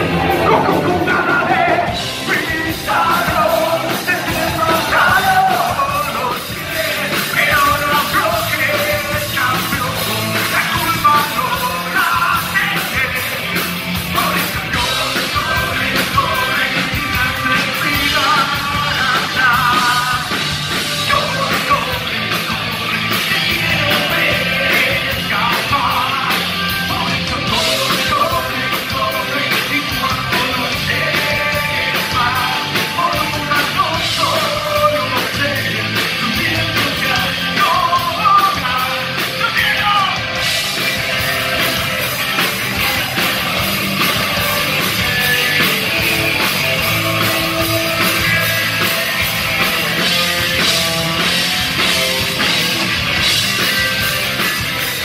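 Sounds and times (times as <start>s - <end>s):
man singing and shouting: 0.0s - 54.1s
rock band playing: 0.0s - 55.0s.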